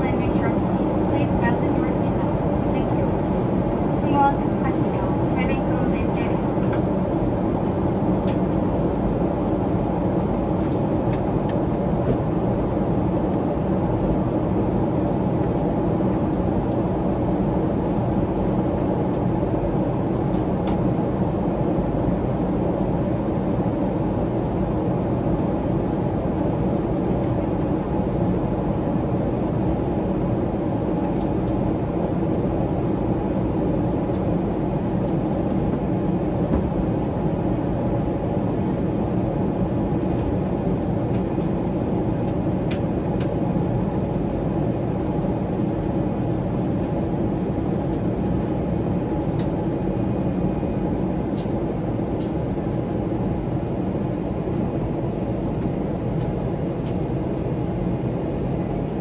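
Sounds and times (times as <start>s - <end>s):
airliner cabin roar: 0.0s - 59.0s.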